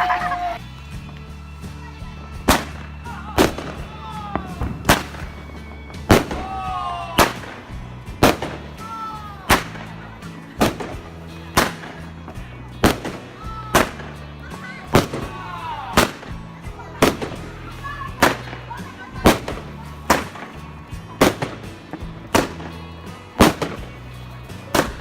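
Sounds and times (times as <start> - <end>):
fireworks bangs: 2.1 - 25.0.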